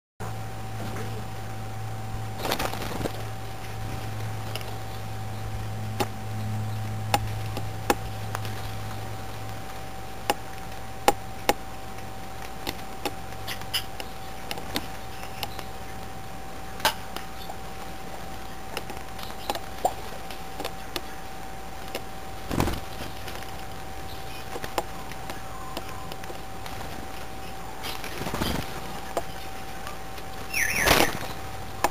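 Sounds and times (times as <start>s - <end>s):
birds pecking on feeder tray: 2.3s - 31.9s.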